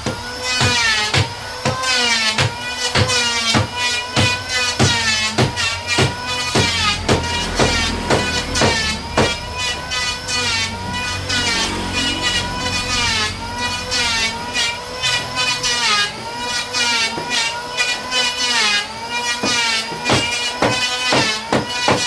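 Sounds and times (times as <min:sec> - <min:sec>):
power tool cutting wood: 0:00.0 - 0:22.0.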